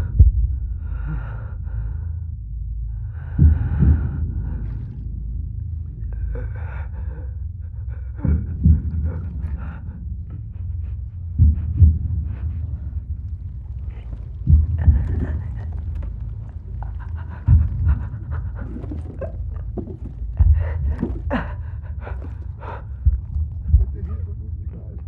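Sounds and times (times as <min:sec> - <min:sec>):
person breathing heavily: 0:00.0 - 0:24.9
low steady rumble: 0:00.0 - 0:25.0
slow heartbeat thumps: 0:00.0 - 0:25.0.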